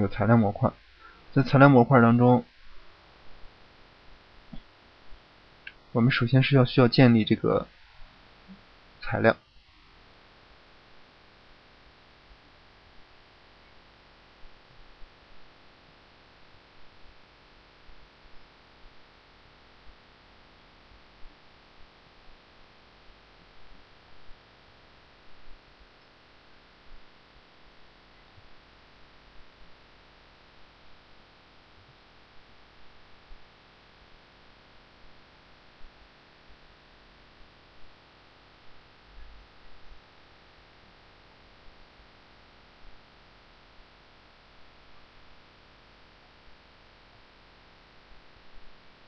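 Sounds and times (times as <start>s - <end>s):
faint hum: 0.0s - 49.0s.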